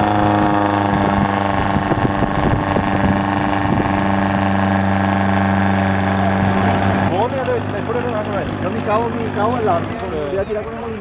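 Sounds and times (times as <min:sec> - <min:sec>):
off-road vehicle engine high revs: 0:00.0 - 0:10.4.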